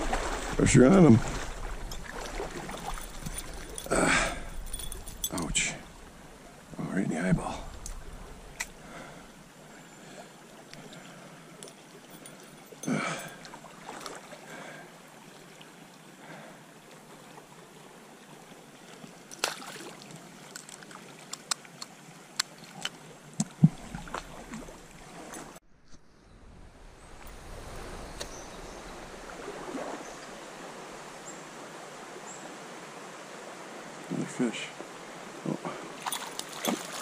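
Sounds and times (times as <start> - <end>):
stream water running: 0.0 - 25.6, 26.7 - 37.0.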